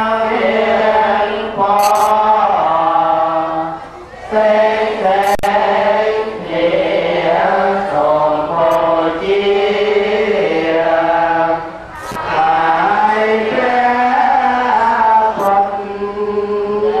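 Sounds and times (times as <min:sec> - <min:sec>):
voices chanting in unison: 0:00.0 - 0:17.0.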